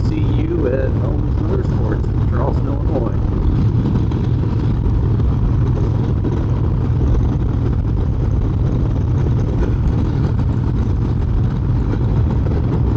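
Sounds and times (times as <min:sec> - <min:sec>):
motorcycle engine running: 0:00.0 - 0:12.9
wind noise: 0:00.0 - 0:12.9.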